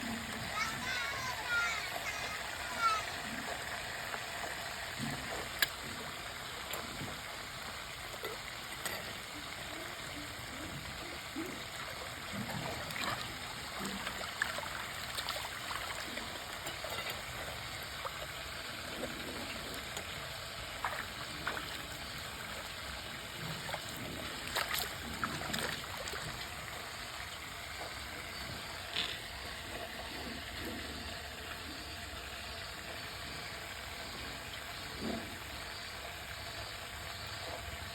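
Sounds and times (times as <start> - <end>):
trickle of running water: 0.0 - 37.9.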